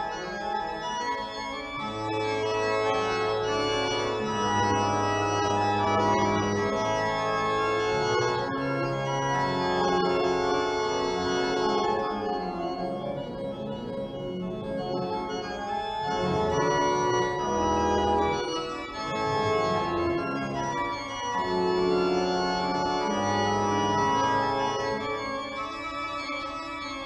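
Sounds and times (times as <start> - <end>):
deep organ pedal bass notes: 0.0 - 27.0
organ chords: 0.0 - 27.0.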